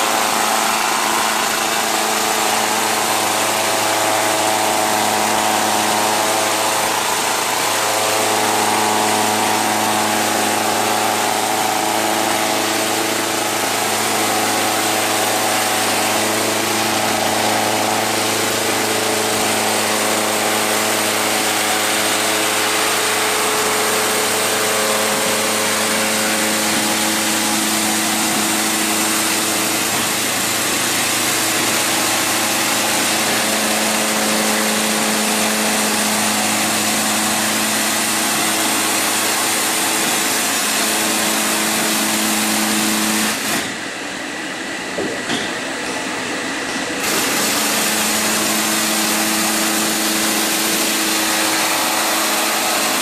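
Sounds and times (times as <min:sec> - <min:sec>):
cutters scraping concrete floor: 0:00.0 - 0:53.0.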